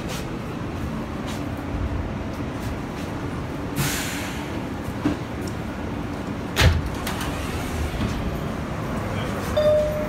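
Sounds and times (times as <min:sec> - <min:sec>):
subway car rumbling: 0:00.0 - 0:10.0.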